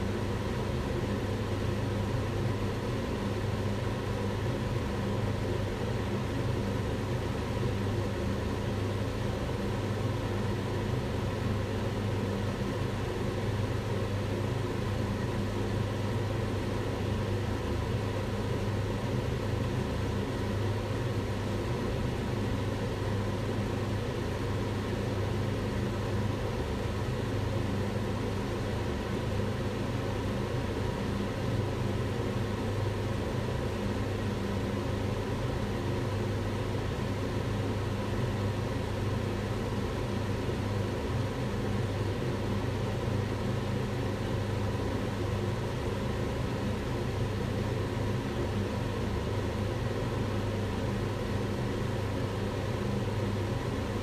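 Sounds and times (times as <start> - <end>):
range hood fan running: 0.0 - 54.0.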